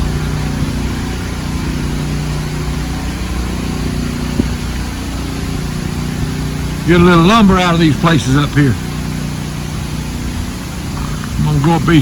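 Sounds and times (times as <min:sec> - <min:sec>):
engine running low hum: 0:00.0 - 0:12.0.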